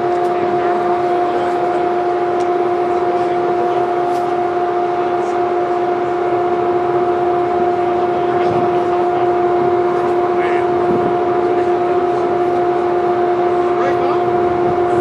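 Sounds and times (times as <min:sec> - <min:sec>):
loud steady hum: 0:00.0 - 0:15.0.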